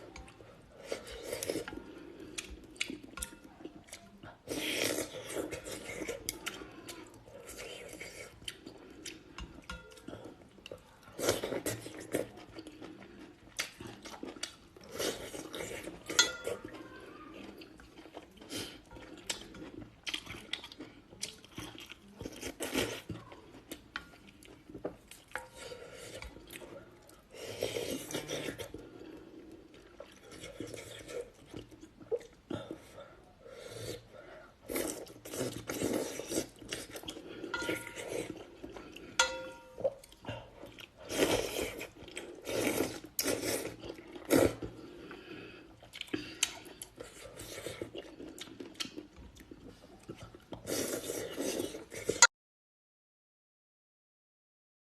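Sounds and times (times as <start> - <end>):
person chewing: 0.0 - 52.3.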